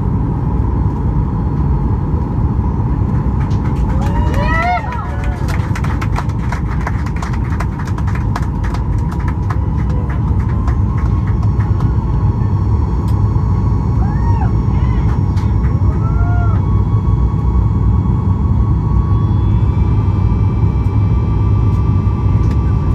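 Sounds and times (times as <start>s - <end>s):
jet engine low rumble: 0.0s - 22.9s
steady whine: 0.0s - 22.9s.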